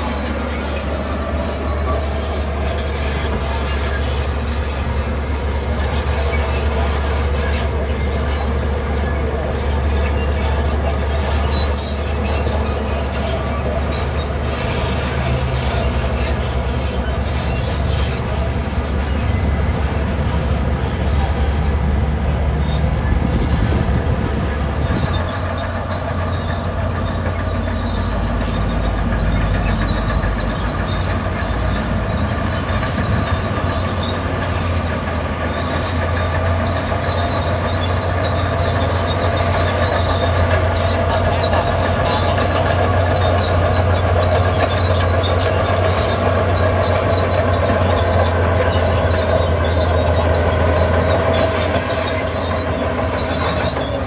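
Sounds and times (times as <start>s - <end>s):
bulldozer diesel engine running: 0.0s - 54.0s
high squeaks from tracks: 0.0s - 54.0s.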